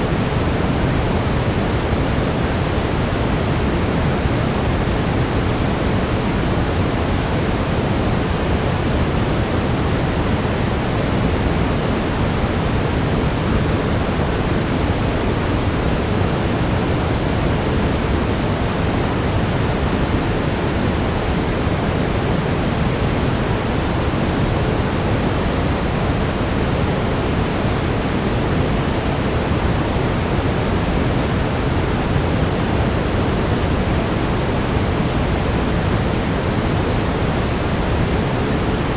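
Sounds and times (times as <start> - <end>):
brown noise: 0.0 - 38.9.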